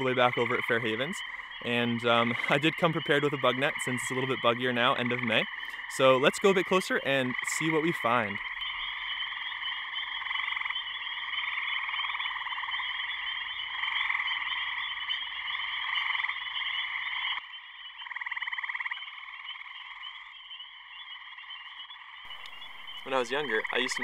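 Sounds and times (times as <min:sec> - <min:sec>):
frog chorus: 0:00.0 - 0:24.0
treefrogs trilling: 0:00.0 - 0:24.0.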